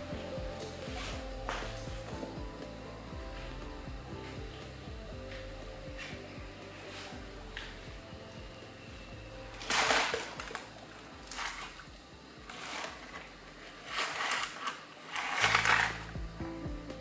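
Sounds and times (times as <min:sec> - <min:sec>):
faint low hum: 0:00.0 - 0:17.0
rhythmic hissing swells: 0:00.0 - 0:17.0.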